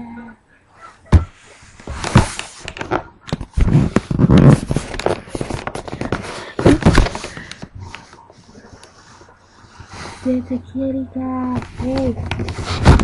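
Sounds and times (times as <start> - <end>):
rubbing and rustling: 0.8 - 10.7, 11.3 - 13.0.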